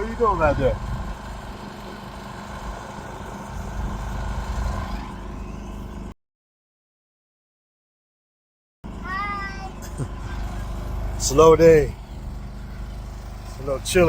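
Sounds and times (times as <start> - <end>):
engine running with low hum: 0.0 - 6.2, 8.8 - 14.0.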